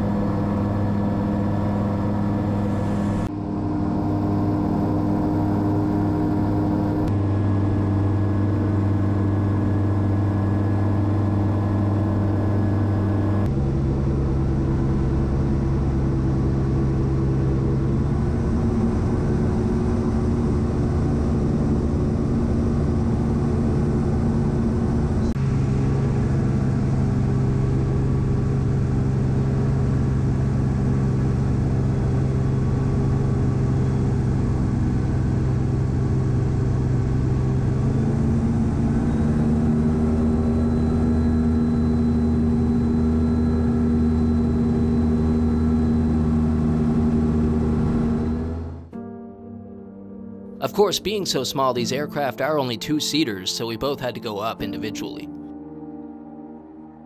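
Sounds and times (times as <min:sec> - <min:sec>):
engine and propeller droning: 0:00.0 - 0:49.4.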